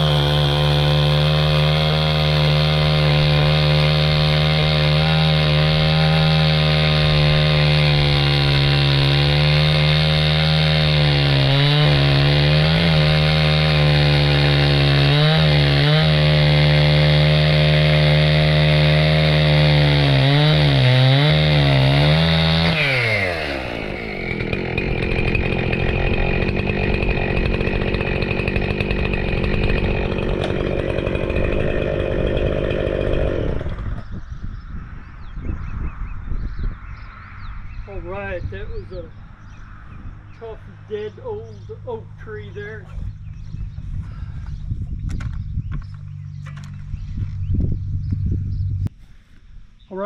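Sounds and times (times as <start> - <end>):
chainsaw cutting wood: 0.0 - 34.2, 40.4 - 48.2
rough low running engine: 0.0 - 34.4, 37.4 - 49.0.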